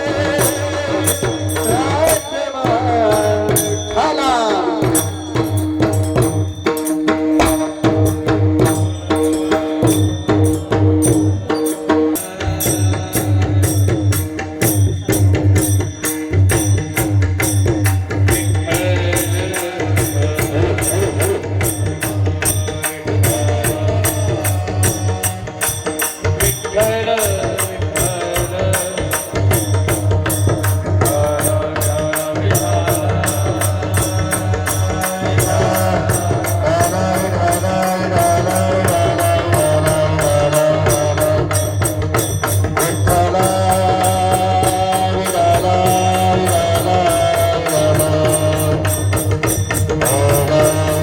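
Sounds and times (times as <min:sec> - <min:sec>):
drum beat: 0:00.0 - 0:51.0
hand cymbal strokes: 0:00.0 - 0:51.0.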